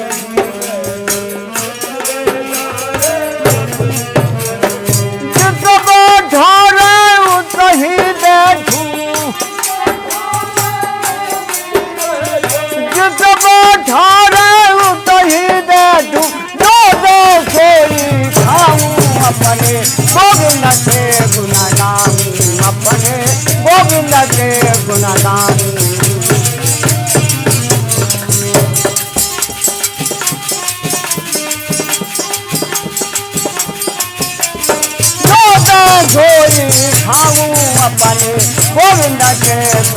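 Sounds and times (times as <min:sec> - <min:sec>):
hand drum beat: 0:00.0 - 0:39.9
jingling percussion: 0:00.0 - 0:39.9.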